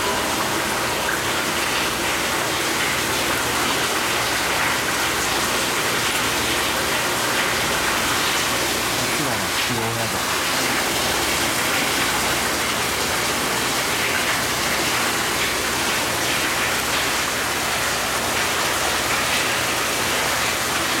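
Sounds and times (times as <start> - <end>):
running water hissing: 0.0 - 21.0.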